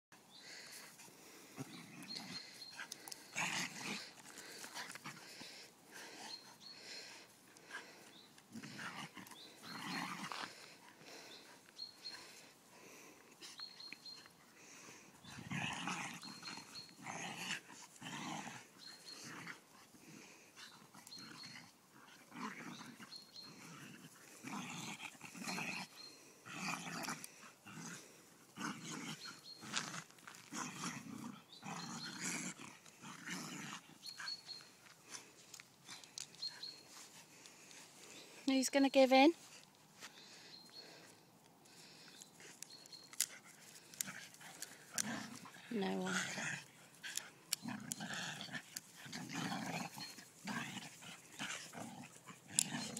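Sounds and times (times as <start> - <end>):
dogs growling while playing: 0.4 - 38.4, 41.6 - 52.9.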